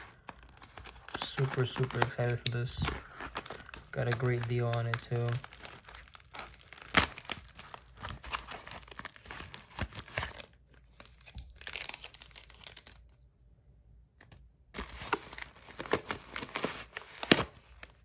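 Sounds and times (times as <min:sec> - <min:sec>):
packaging crinkling and tearing: 0:00.0 - 0:13.2, 0:14.8 - 0:18.0.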